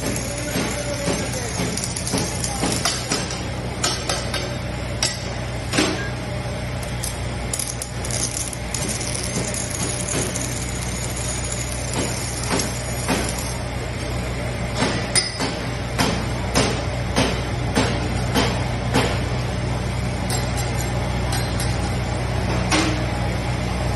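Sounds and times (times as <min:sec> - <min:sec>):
steady machine hum: 0:00.0 - 0:23.9.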